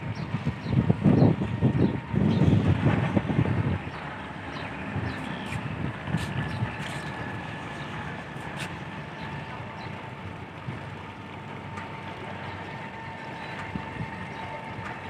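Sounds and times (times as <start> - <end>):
boat engine running: 0.0 - 15.0
water rushing along hull: 0.0 - 15.0.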